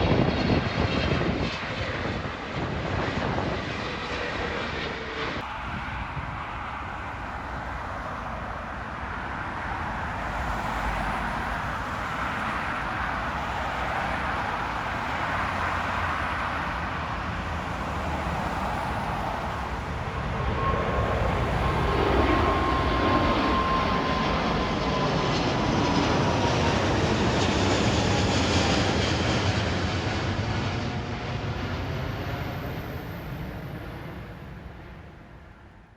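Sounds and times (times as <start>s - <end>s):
jet engine rush: 0.0s - 35.8s
jet engine whine: 0.0s - 35.9s.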